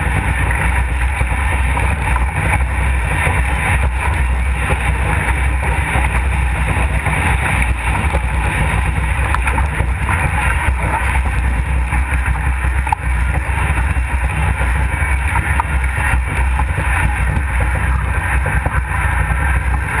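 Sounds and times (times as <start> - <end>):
rushing water and spray: 0.0 - 20.0.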